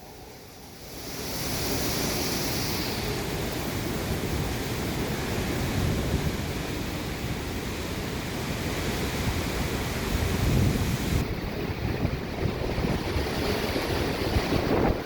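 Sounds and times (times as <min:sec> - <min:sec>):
strong wind gusting: 0:00.0 - 0:15.0
wind buffeting microphone: 0:02.0 - 0:15.0.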